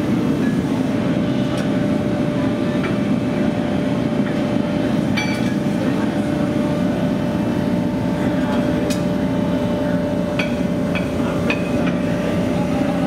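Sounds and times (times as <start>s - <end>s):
forging machine drone: 0.0s - 13.0s.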